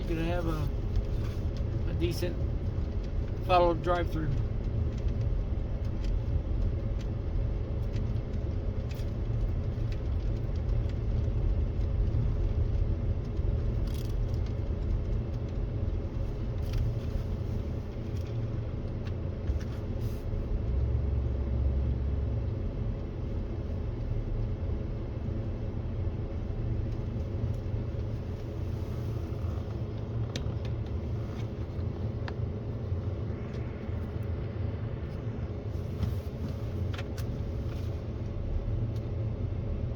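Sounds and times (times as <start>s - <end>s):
pickup truck engine running: 0.0s - 39.9s.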